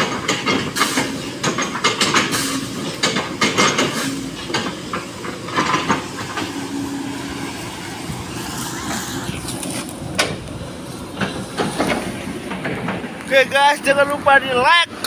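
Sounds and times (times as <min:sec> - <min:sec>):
excavator running: 0:00.0 - 0:15.0.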